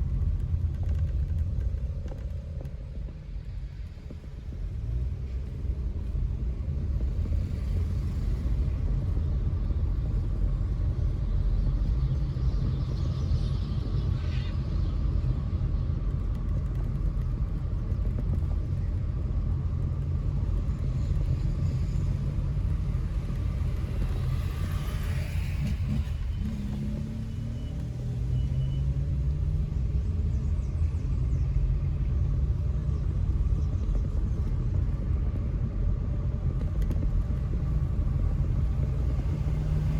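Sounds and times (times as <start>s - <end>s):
car engine and road noise: 0.0s - 39.9s
passing traffic: 0.0s - 39.9s.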